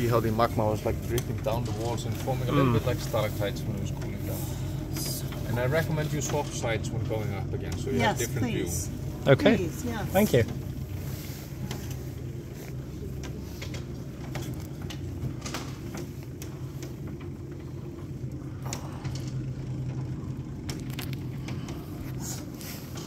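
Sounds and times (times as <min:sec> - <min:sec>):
low mechanical hum of lift: 0:00.0 - 0:23.0.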